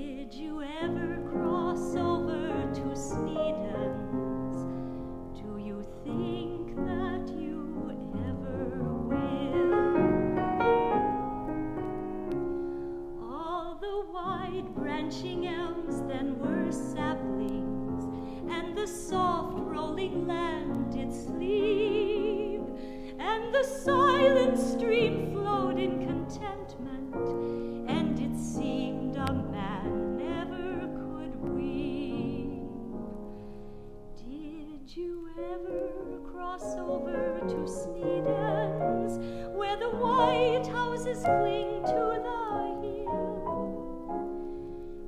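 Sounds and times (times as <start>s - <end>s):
woman singing with vibrato: 0.0s - 4.6s, 5.4s - 10.3s, 13.2s - 32.8s, 34.2s - 43.8s
piano accompaniment: 0.0s - 45.0s.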